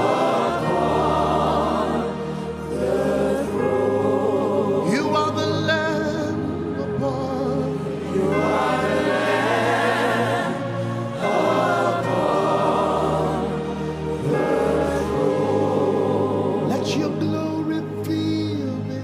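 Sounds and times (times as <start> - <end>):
group singing gospel song: 0.0 - 17.4
low sustained accompaniment chords: 0.0 - 19.0.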